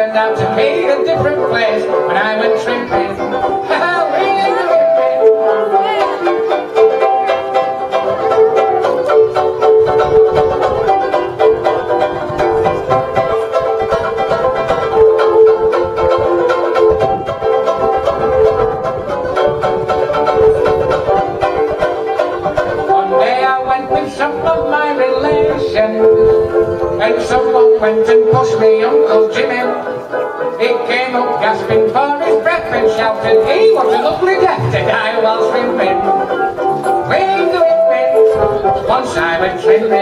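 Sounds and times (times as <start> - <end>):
backing accompaniment held notes: 0.0 - 40.0
banjo ukulele strummed rapidly: 0.0 - 40.0.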